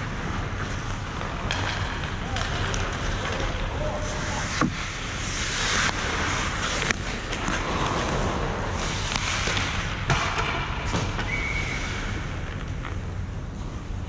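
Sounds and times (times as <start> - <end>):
skate blades scraping ice: 0.0 - 13.1
hockey sticks and puck clacking: 0.0 - 13.7.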